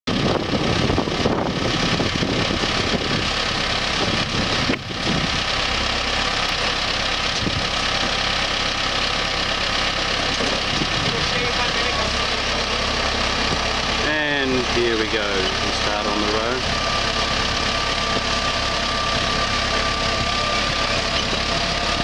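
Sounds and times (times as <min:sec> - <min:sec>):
tractor diesel engine running: 0:00.1 - 0:22.0.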